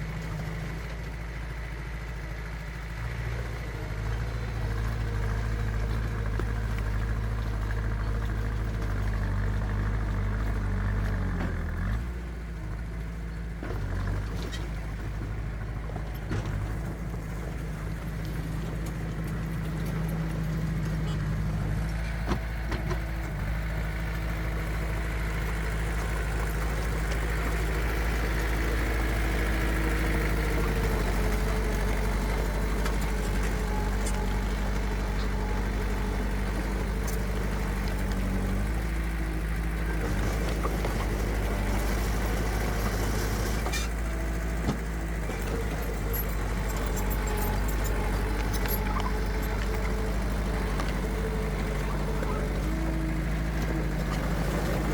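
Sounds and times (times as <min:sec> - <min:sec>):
heavy machinery diesel engines: 0:00.0 - 0:54.9.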